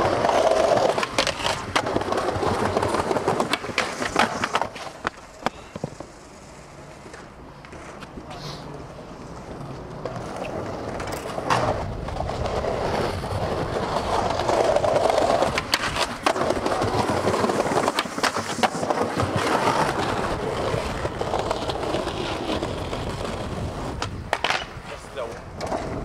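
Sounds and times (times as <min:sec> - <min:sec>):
skateboard clacking: 0:00.0 - 0:26.0
skateboard wheels rolling on concrete: 0:00.0 - 0:26.0.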